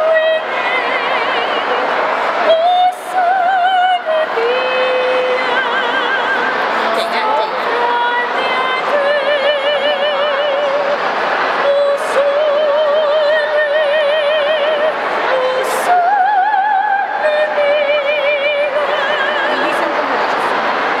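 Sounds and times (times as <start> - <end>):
woman singing operatically: 0.0 - 1.8, 2.4 - 11.0, 11.6 - 20.2.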